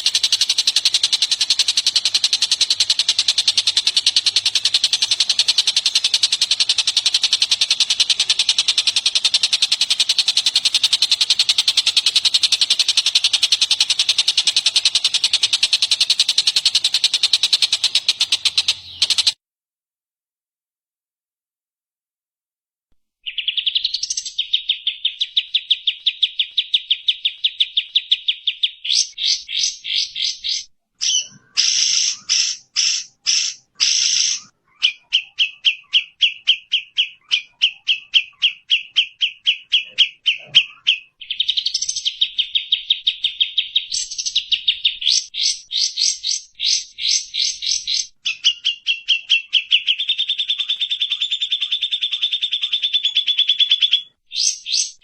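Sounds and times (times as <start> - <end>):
songbird trilling: 0.0 - 19.4, 23.2 - 55.0.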